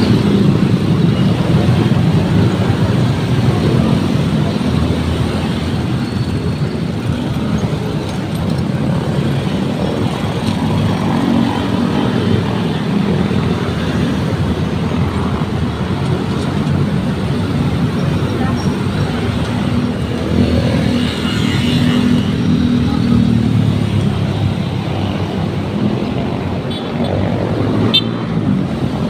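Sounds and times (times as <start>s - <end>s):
motorcycles and cars passing: 0.0s - 29.0s.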